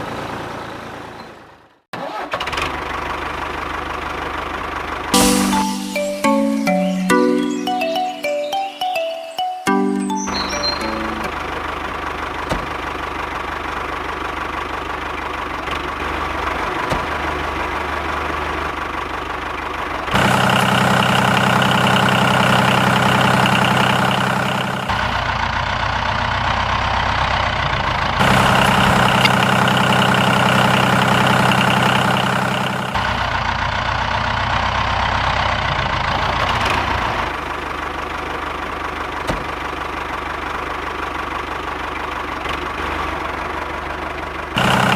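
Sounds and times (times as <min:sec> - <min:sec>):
engine idling: 0:02.6 - 0:05.1, 0:11.3 - 0:44.9.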